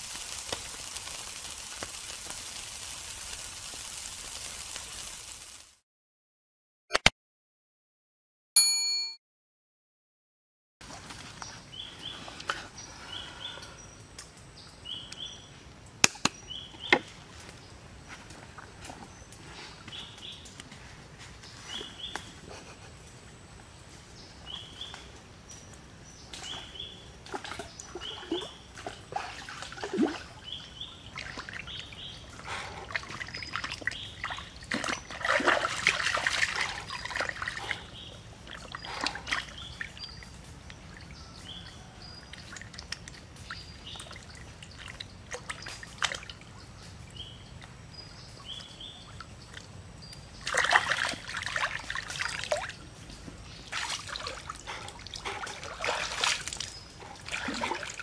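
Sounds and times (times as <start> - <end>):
water splashing and sloshing: 0.0 - 5.5, 10.8 - 13.6, 16.7 - 58.0.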